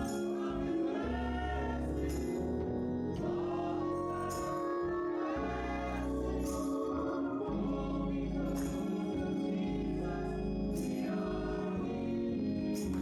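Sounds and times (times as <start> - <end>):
gospel choir singing: 0.0 - 13.0
instrumental backing with bass: 0.0 - 13.0.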